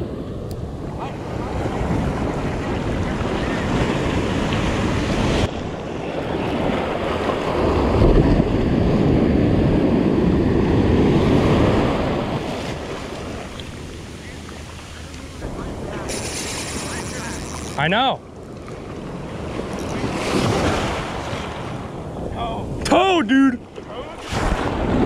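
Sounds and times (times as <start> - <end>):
wind buffeting the microphone: 0.0 - 22.9
ocean surf washing in: 0.0 - 25.0.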